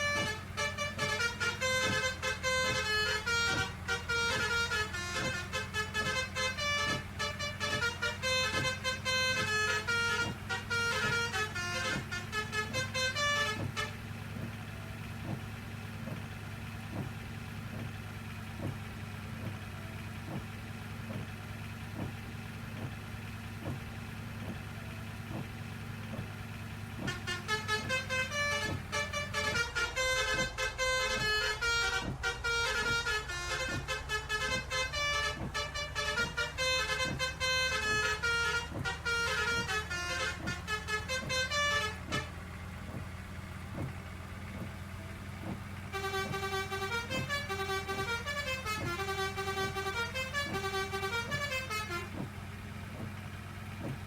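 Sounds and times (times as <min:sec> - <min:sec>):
multi-note horn tune: 0:00.0 - 0:15.8, 0:16.7 - 0:43.0, 0:44.6 - 0:54.0
bus engine idling: 0:00.0 - 0:54.0.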